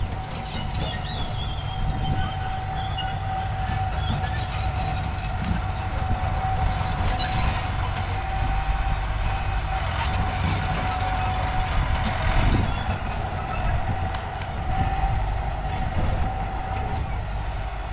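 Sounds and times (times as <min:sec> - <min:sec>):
diesel machinery engine rumble: 0:00.0 - 0:17.9.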